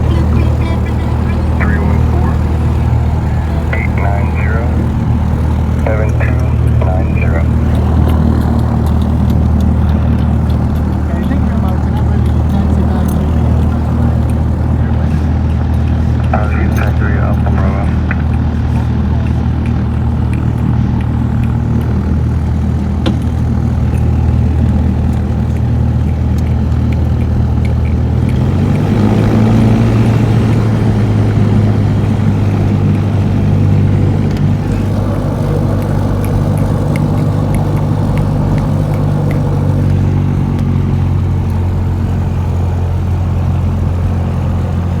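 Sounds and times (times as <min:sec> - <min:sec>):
small plane engine and propeller: 0:00.0 - 0:45.0.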